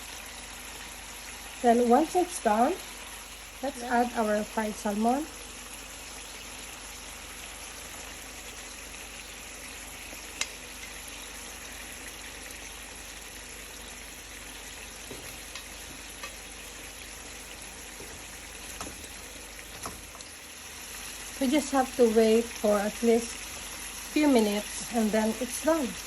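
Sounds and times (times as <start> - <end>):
sauce sizzling in a pan: 0.0 - 26.0.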